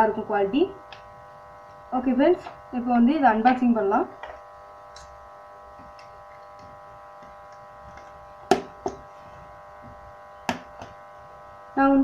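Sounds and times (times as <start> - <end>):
steady electrical buzz: 0.0 - 12.0.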